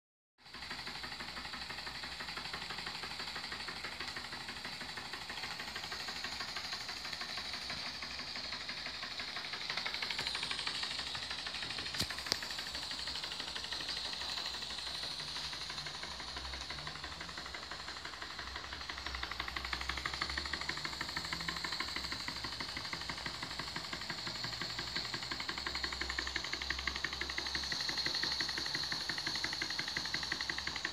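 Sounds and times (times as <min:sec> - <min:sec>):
model steam engine running: 0:00.4 - 0:30.9.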